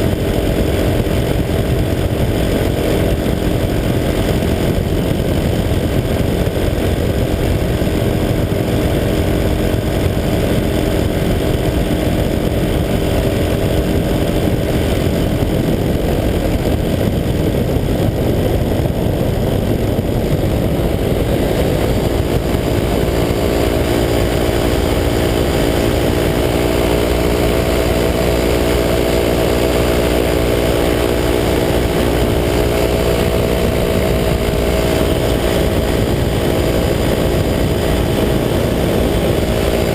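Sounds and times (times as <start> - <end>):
paramotor engine buzzing: 0.0 - 39.9.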